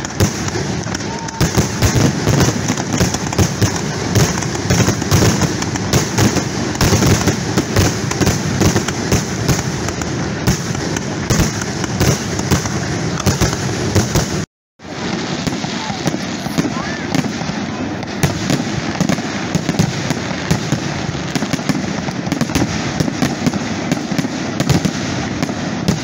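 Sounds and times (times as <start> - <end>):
fireworks bursts and crackles: 0.0 - 26.0.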